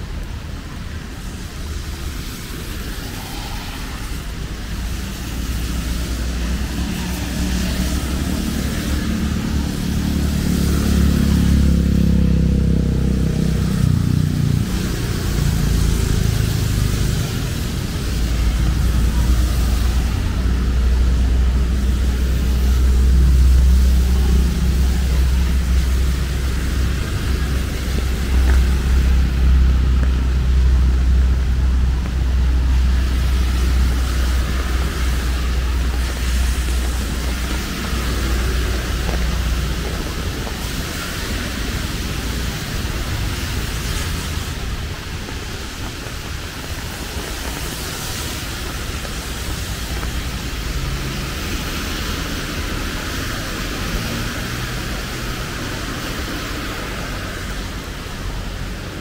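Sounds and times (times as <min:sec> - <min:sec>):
low traffic rumble: 0:00.0 - 0:59.0
passing vehicle engine: 0:00.0 - 0:59.0
steady rain: 0:00.0 - 0:59.0.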